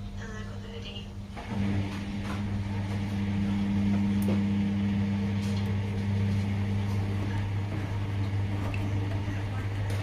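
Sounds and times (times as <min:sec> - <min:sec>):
washing machine motor hum: 0:00.0 - 0:10.0.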